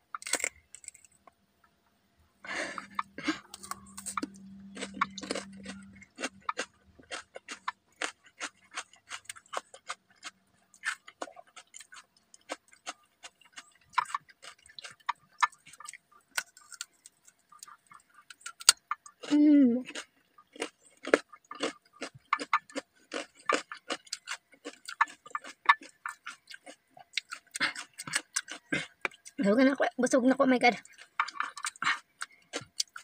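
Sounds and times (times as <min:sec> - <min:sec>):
chewing crisp cucumber: 0:00.1 - 0:01.2, 0:02.6 - 0:29.4, 0:30.8 - 0:33.0.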